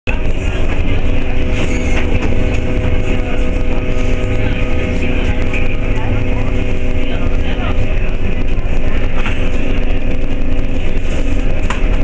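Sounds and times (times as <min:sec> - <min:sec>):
constant tonal hum: 0:00.1 - 0:12.0
train rumbling: 0:00.1 - 0:12.0.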